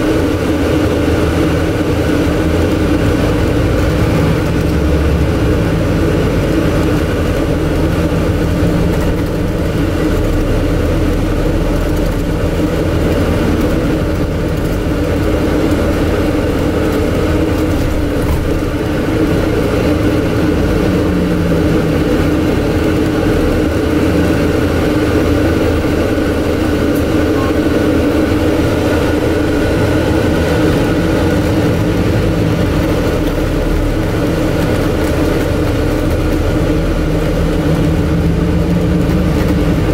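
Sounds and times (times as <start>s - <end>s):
air-conditioning drone: 0.0s - 39.9s
quiet bus engine: 0.0s - 39.9s.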